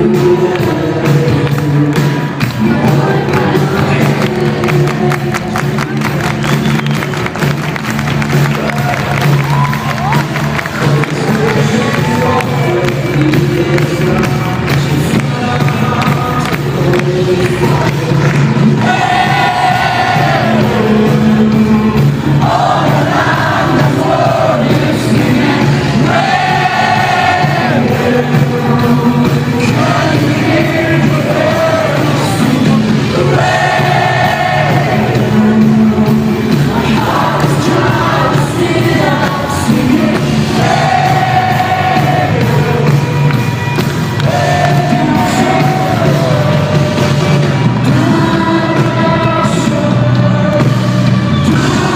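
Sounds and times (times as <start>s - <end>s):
crowd singing along: 0.0s - 7.2s, 9.4s - 51.9s
worship band music: 0.0s - 51.9s.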